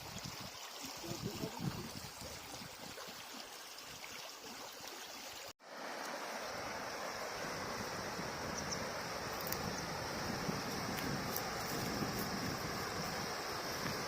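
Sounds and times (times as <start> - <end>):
river water running: 0.0 - 14.0.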